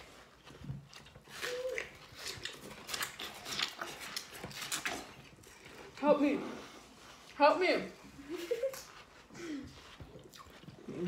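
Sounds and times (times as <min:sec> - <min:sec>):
biting and chewing watermelon: 0:00.0 - 0:07.4, 0:08.7 - 0:11.0.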